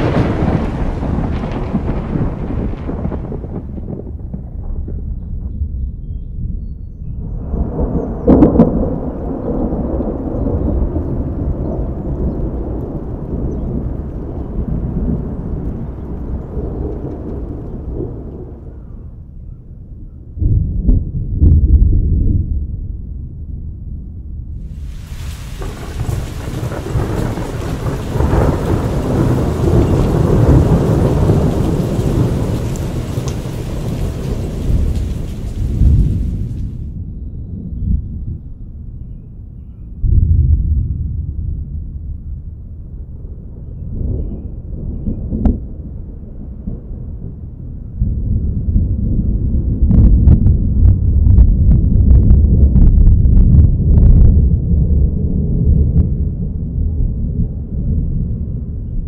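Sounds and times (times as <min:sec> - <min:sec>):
thunder cracks: 0:00.0 - 0:05.9, 0:07.3 - 0:18.8, 0:20.4 - 0:23.1, 0:24.6 - 0:38.4, 0:40.0 - 0:58.8
deep thunder rumble: 0:00.0 - 0:59.0.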